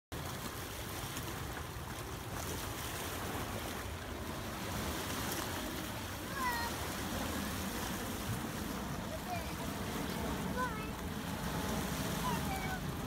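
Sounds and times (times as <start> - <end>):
waves lapping against rocks: 0.1 - 13.0
wind buffeting microphone: 0.2 - 13.0.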